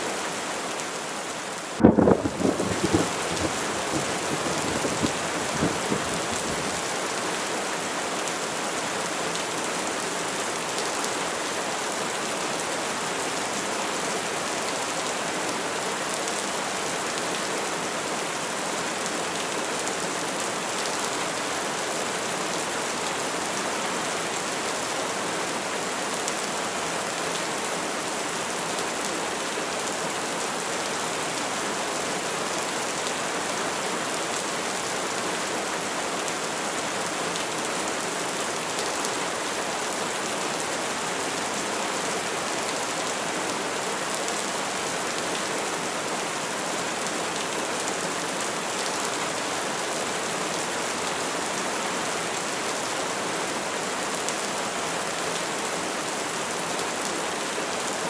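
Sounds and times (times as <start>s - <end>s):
steady rain hiss: 0.0s - 58.0s
patter of raindrops: 0.1s - 57.7s.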